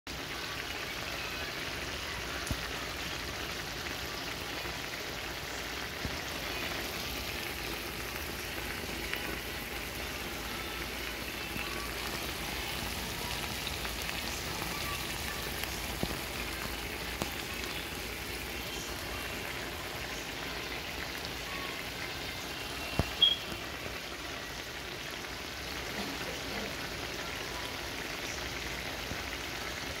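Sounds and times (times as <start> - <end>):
food sizzling and bubbling: 0.1 - 30.0.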